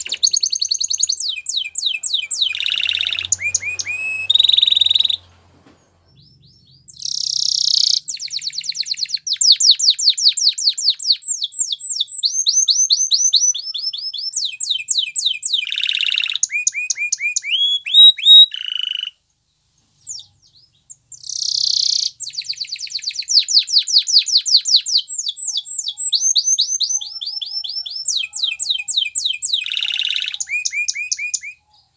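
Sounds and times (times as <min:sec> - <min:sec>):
canary singing trills: 0:00.0 - 0:05.3, 0:05.9 - 0:19.2, 0:19.8 - 0:31.9.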